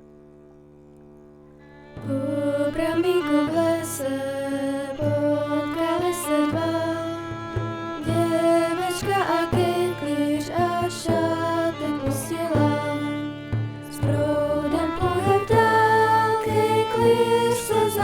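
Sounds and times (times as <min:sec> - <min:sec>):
instrumental music with bass: 0:00.0 - 0:18.0.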